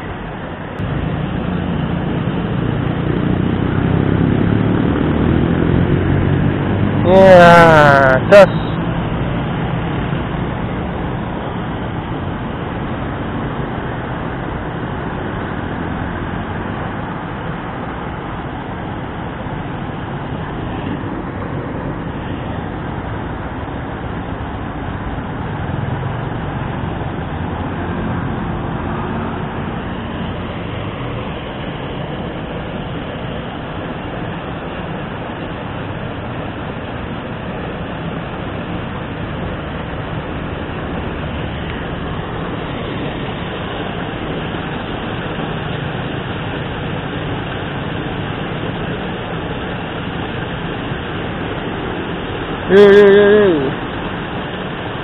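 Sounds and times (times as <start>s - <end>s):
water rushing over weir: 0.0s - 55.0s.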